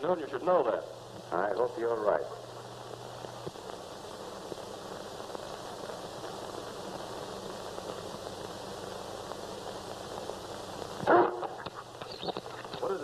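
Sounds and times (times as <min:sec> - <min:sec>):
faint crackles: 0:00.0 - 0:13.0
film soundtrack hiss: 0:00.0 - 0:13.0.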